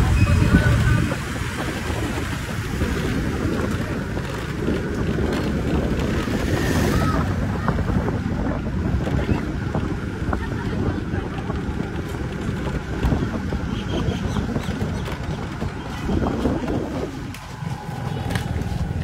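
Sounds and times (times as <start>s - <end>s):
vehicle low rumble: 0.0s - 19.0s
wind buffeting microphone: 0.0s - 19.0s.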